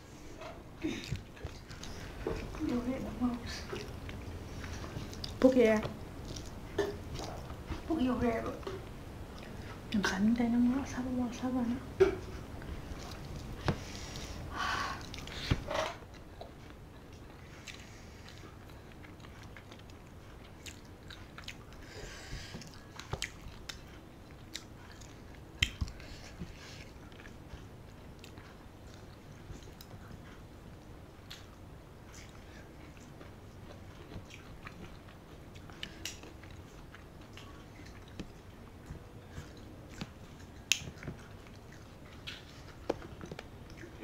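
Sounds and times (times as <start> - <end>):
chewing: 0.2 - 10.2, 12.1 - 14.4, 15.0 - 44.0.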